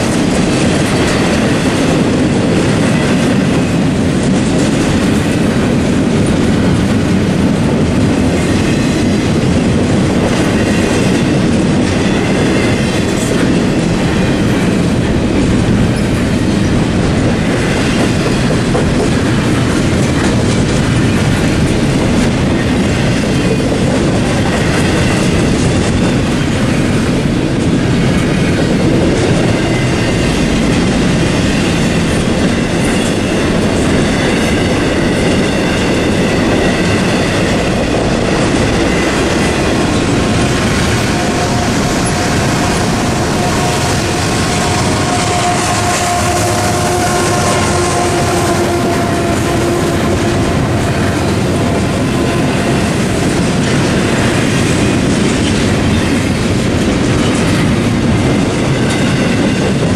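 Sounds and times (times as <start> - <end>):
freight train rumbling past: 0.0 - 59.9
wheels clattering on rails: 0.0 - 59.9.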